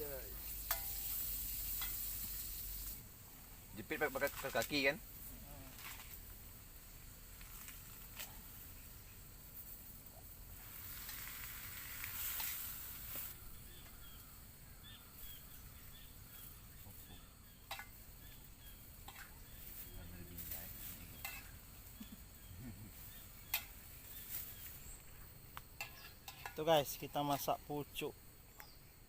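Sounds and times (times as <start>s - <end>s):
food sizzling in a pan: 0.0s - 8.1s, 10.4s - 14.2s, 15.2s - 24.8s, 25.8s - 28.0s.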